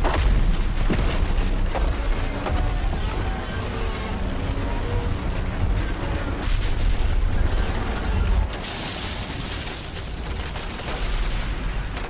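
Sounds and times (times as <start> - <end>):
heavy low rumble: 0.0 - 12.0.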